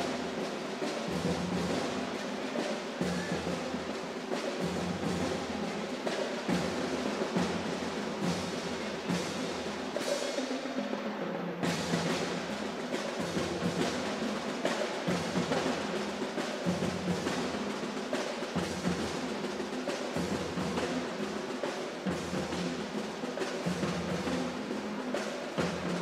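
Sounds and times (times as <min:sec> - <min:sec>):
snare drum rolls: 0:00.0 - 0:26.0.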